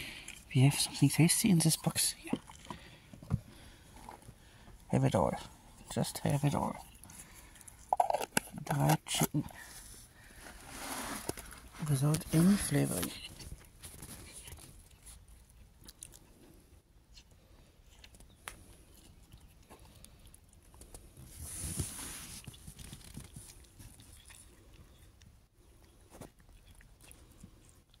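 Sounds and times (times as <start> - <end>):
cat crunching and chewing: 0.0 - 28.0.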